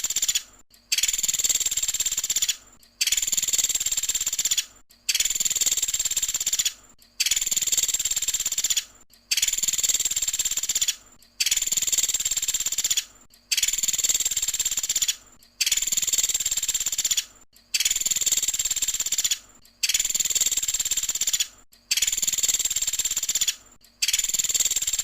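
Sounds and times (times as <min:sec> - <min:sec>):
bird singing a rattling trill: 0:00.0 - 0:25.0.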